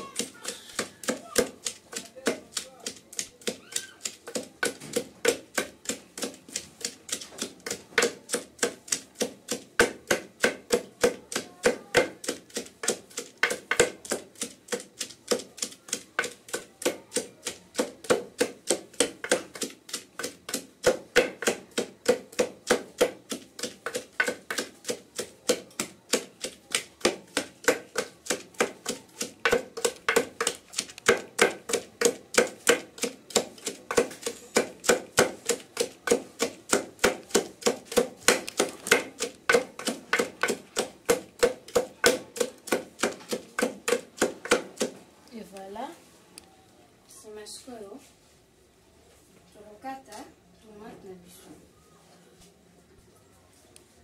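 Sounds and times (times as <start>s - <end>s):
wooden pestle pounding in mortar: 0.0s - 45.0s.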